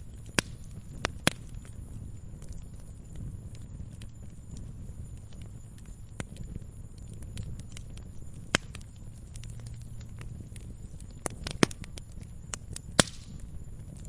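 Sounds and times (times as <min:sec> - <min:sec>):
fire popping: 0:00.0 - 0:14.0
fireplace fire crackling: 0:00.0 - 0:14.0.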